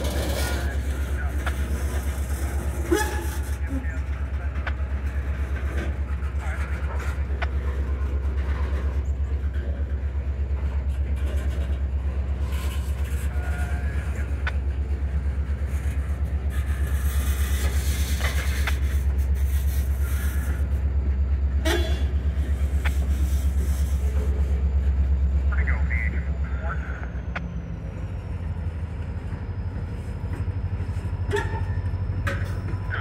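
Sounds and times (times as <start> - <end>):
diesel locomotive engine rumbling: 0.0 - 33.0.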